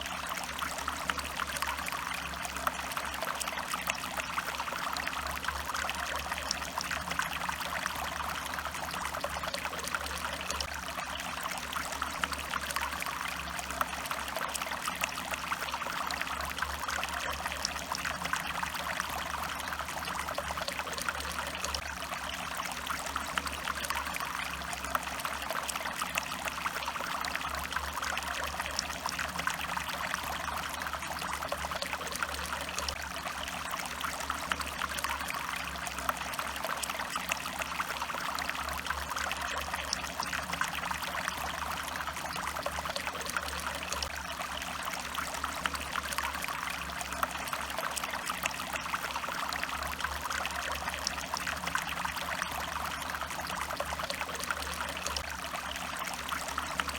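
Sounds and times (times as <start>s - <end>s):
stream water babbling: 0.0s - 56.9s.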